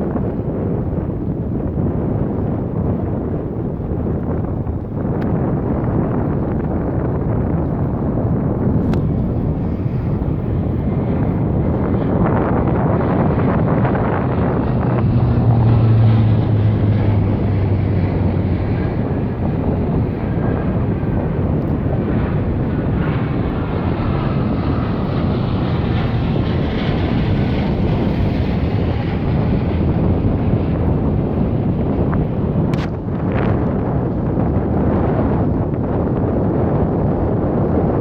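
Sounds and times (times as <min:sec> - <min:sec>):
aircraft engines rumbling overhead: 0:00.0 - 0:38.0
wind buffeting microphone: 0:00.0 - 0:38.0.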